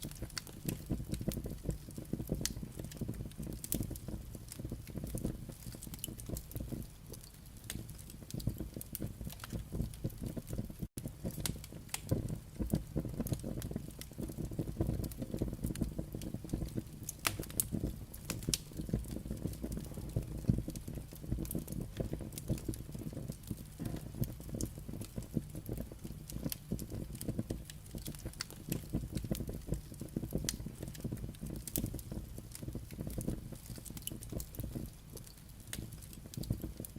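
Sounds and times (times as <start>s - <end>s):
firewood crackling and popping: 0.0s - 36.9s.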